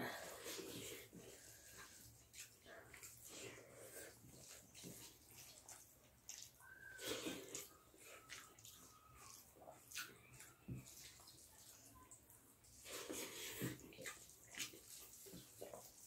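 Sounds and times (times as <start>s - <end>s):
fingers squelching through food: 0.2s - 16.0s
wet chewing and mouth clicks: 0.2s - 16.0s.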